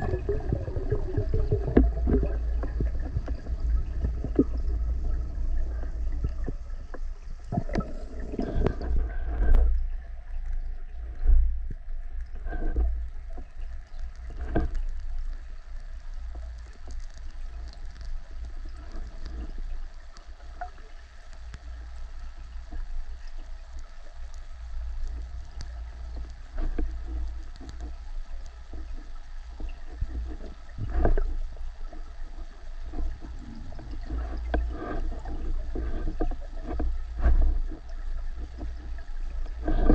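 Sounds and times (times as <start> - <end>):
underwater rumble of moving water: 0.0 - 39.9.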